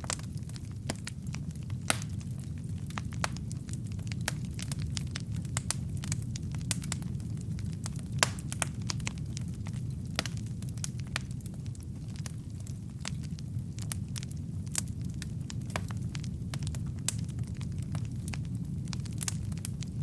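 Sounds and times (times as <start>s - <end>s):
logs crackling and popping: 0.0s - 20.0s
wood fire flames rumbling: 0.0s - 20.0s.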